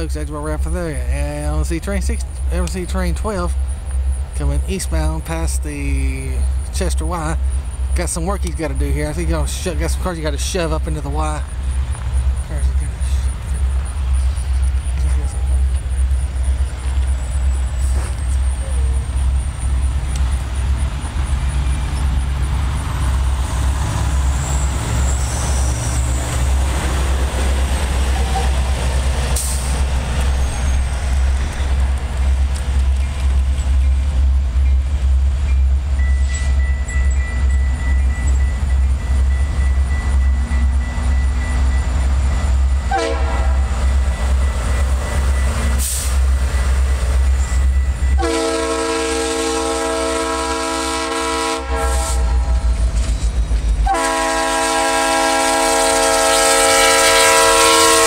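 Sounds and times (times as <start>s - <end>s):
freight train rumble: 0.0s - 58.0s.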